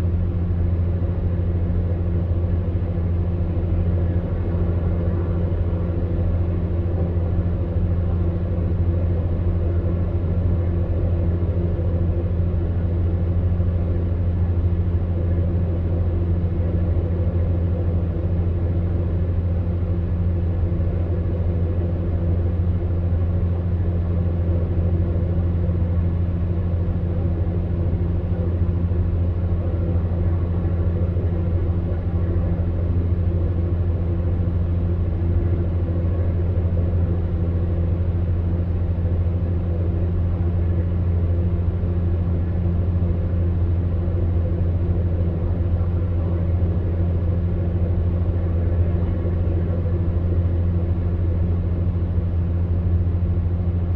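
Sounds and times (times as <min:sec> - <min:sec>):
fan heater motor hum: 0:00.0 - 0:53.9.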